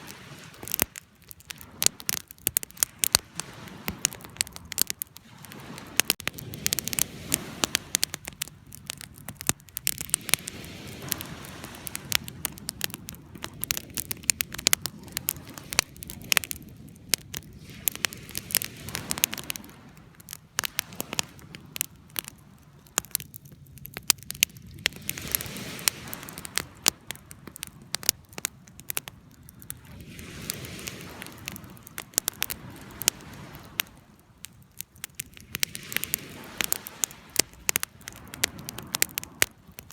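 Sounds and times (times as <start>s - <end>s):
campfire crackling and popping: 0.0s - 39.9s
hiss of flames: 0.0s - 39.9s.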